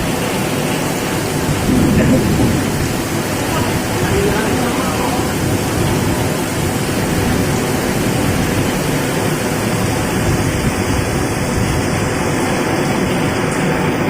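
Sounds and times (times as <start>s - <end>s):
heavy wind-driven rain: 0.0s - 14.0s.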